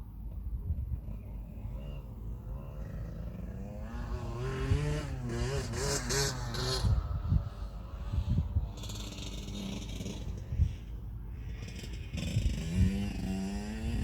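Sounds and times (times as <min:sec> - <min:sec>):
two-stroke engine revving: 0:01.4 - 0:14.0.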